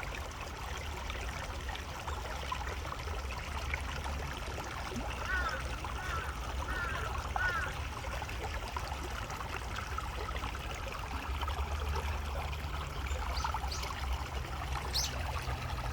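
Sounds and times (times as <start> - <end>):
stream rushing and trickling: 0.0 - 15.9.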